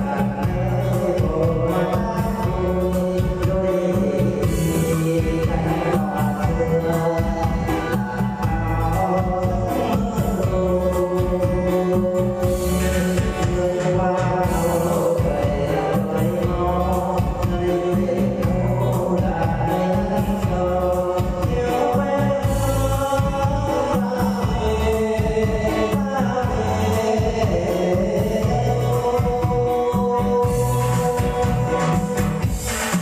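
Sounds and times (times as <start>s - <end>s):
backing track with pulsing bass: 0.0s - 33.0s
person singing: 0.0s - 33.0s.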